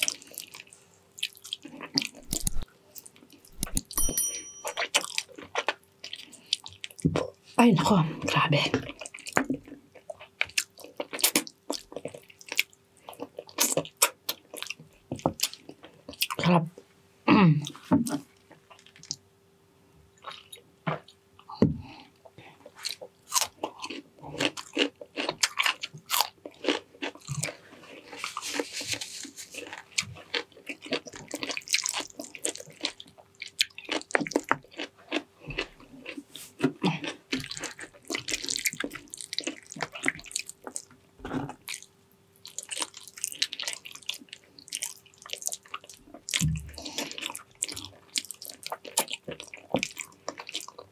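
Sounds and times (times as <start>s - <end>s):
wet chewing and crunching: 0.0s - 4.0s, 4.7s - 7.6s, 8.2s - 16.5s, 20.2s - 21.2s, 22.2s - 50.9s.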